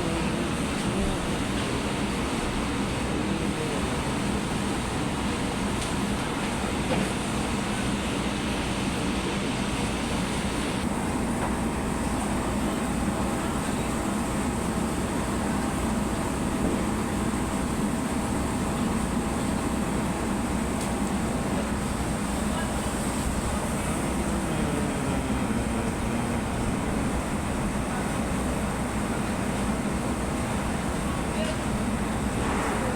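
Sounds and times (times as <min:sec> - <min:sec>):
machinery running hum: 0:00.0 - 0:32.9.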